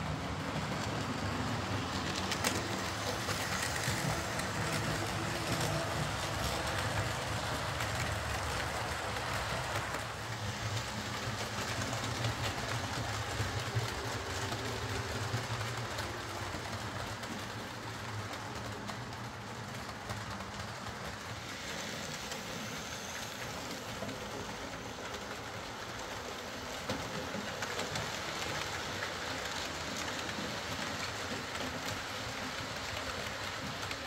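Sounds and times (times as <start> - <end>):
wheels clicking on track: 0.0 - 34.0.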